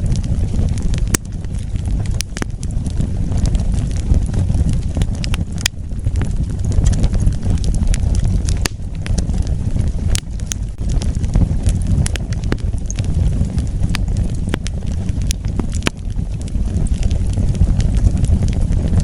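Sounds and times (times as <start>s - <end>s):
fire rumbling: 0.0s - 19.0s
wood fire crackling and popping: 0.0s - 19.0s.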